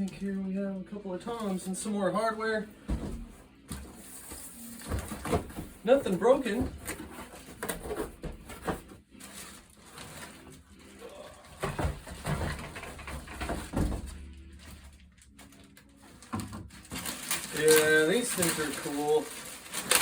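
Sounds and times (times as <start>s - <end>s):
packaging rustling: 4.0s - 20.0s.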